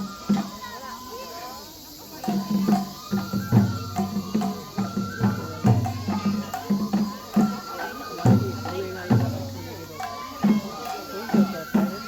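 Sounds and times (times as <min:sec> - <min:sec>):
taiko drums steady beat: 0:00.0 - 0:12.0.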